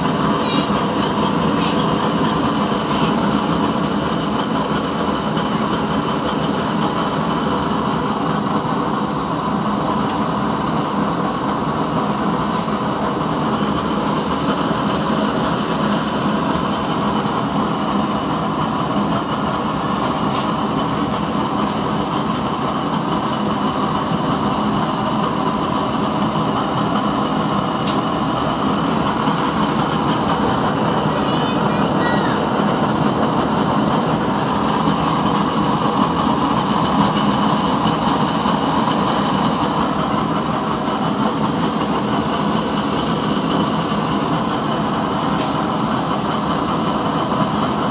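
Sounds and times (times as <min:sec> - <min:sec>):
stove burner flame roaring: 0:00.0 - 0:47.9.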